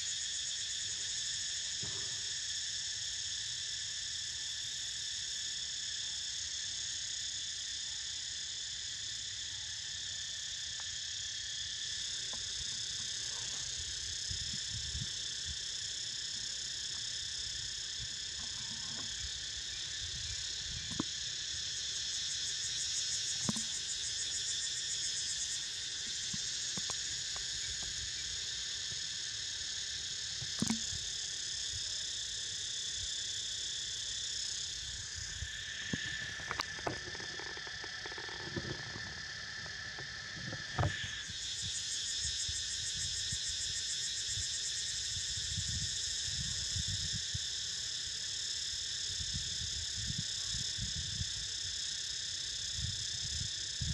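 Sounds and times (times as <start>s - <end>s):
cicadas droning: 0.0s - 53.9s.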